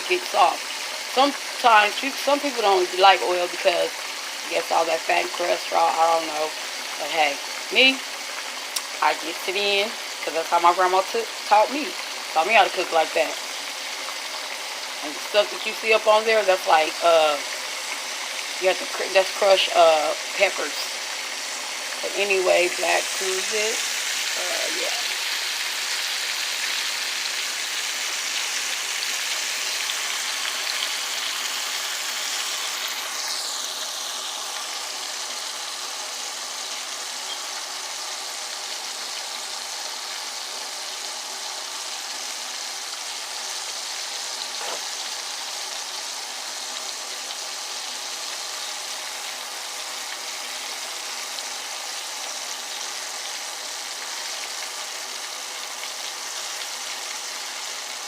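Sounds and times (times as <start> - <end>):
ribs sizzling in hot oil: 0.0 - 58.0.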